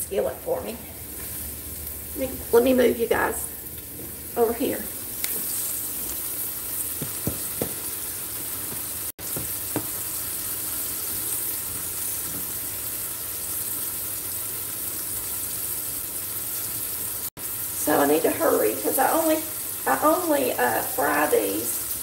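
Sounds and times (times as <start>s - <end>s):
pork chops sizzling in a skillet: 1.0s - 22.0s.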